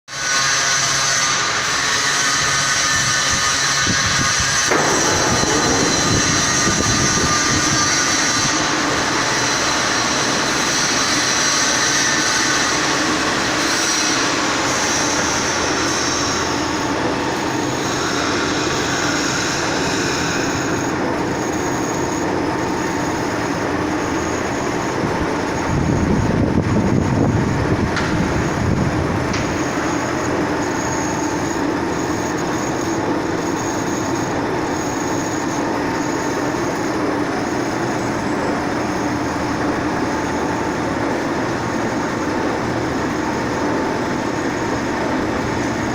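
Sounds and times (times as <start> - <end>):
machine running: 4.1 - 45.9.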